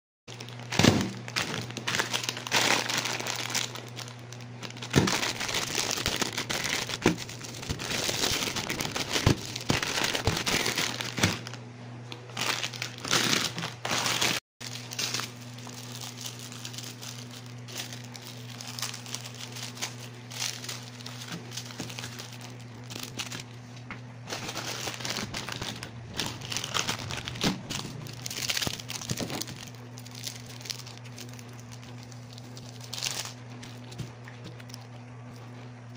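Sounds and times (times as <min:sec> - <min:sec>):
plastic packaging crinkling: 0:00.3 - 0:35.9
steady low hum: 0:00.3 - 0:35.9.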